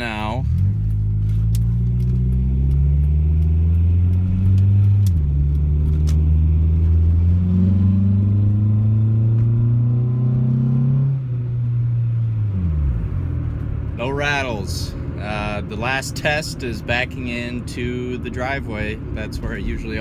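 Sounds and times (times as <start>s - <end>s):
car engine and exhaust accelerating: 0.0s - 20.0s.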